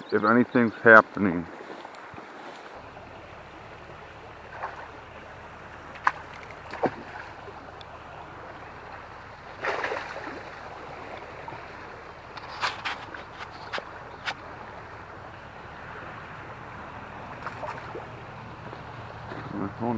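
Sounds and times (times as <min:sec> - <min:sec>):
creek running: 0:00.0 - 0:19.9.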